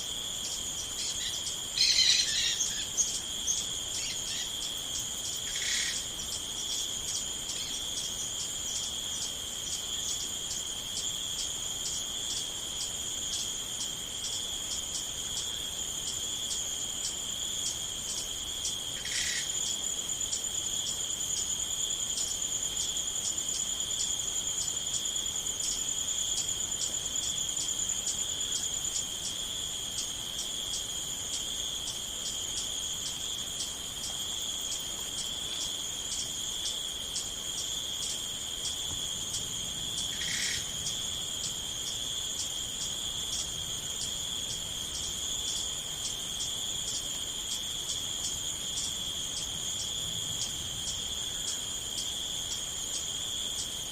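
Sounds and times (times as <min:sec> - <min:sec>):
crickets chirping: 0:00.0 - 0:53.9.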